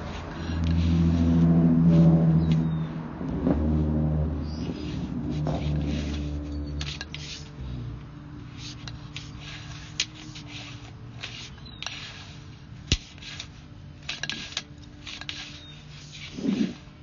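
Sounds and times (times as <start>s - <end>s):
cable clicks and scraping rustles: 0.0s - 2.7s, 4.5s - 17.0s.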